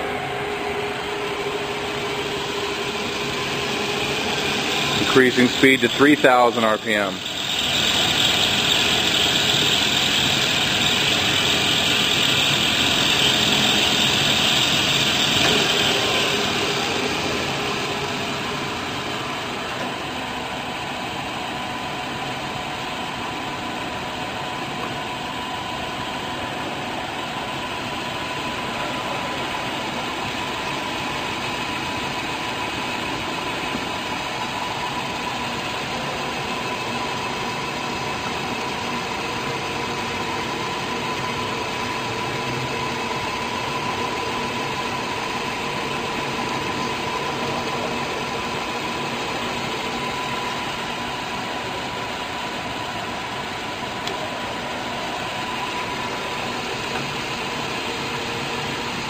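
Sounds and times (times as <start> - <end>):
lathe running steadily: 0.0 - 59.0
lathe spindle whining: 0.0 - 59.0.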